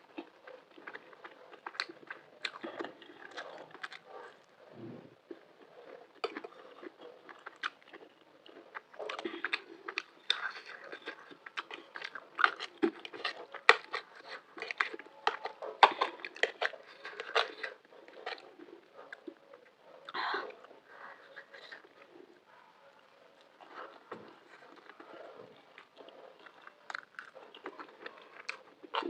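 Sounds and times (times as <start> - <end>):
chewing with wet clicks: 0.0 - 4.7, 5.3 - 29.0.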